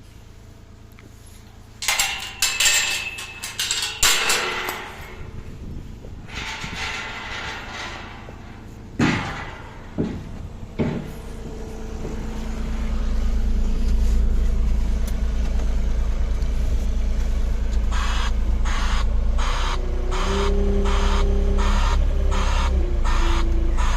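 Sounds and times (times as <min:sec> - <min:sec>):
machine rumbling: 0:00.0 - 0:23.9
steady hum: 0:00.0 - 0:23.9.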